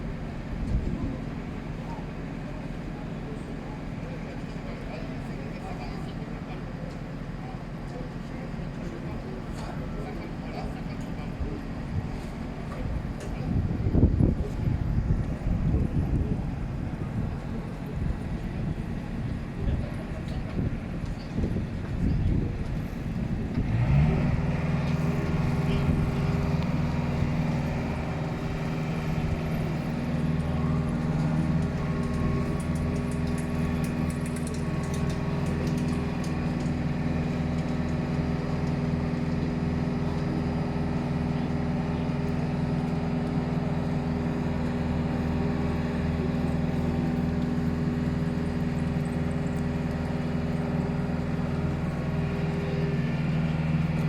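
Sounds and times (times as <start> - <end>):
large vehicle engine running: 0.0 - 54.0.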